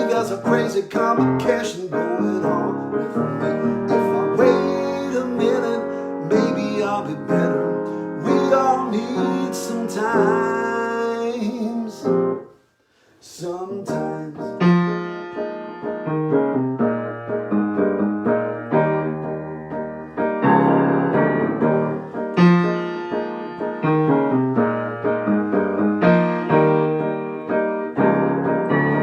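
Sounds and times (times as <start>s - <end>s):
piano chords: 0.0s - 12.5s, 13.3s - 29.0s.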